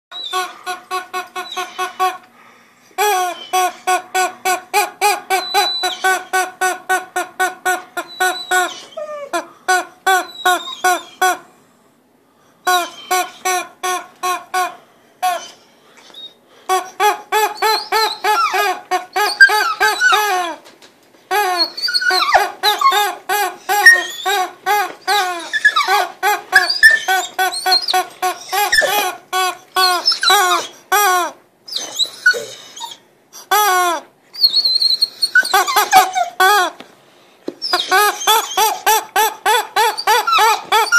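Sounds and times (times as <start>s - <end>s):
squeaky dog toy squeaking: 0.1s - 2.2s, 3.0s - 11.4s, 12.7s - 15.6s, 16.2s - 20.6s, 21.3s - 36.8s, 37.6s - 40.9s.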